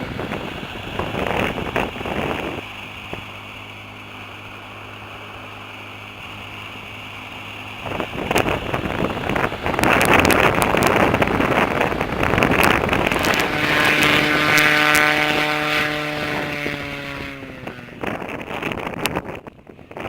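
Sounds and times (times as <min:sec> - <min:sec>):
wind buffeting microphone: 0:00.0 - 0:04.5, 0:07.7 - 0:20.0
airboat engine drone: 0:00.0 - 0:20.0.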